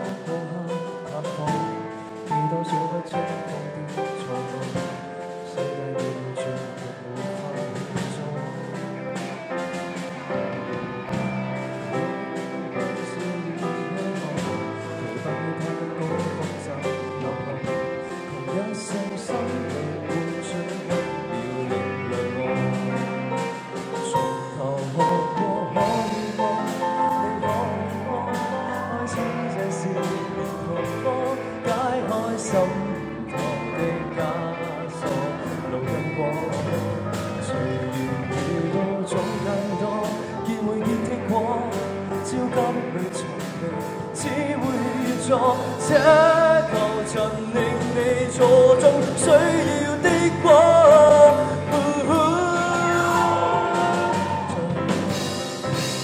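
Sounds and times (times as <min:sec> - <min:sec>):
bass guitar: 0:00.0 - 0:56.0
drum and cymbal hits: 0:00.0 - 0:56.0
man singing: 0:00.0 - 0:56.0
electric guitar: 0:07.7 - 0:56.0.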